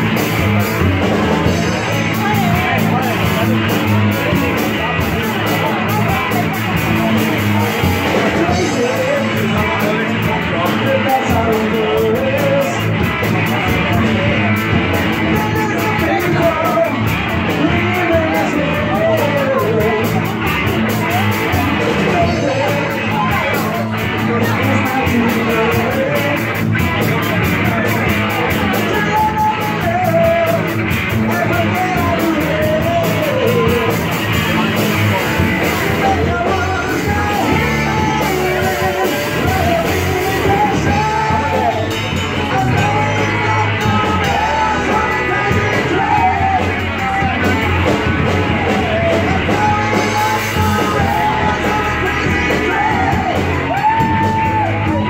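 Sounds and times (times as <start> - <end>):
drums: 0.0 - 55.0
electric guitars: 0.0 - 55.0
person singing: 0.0 - 55.0.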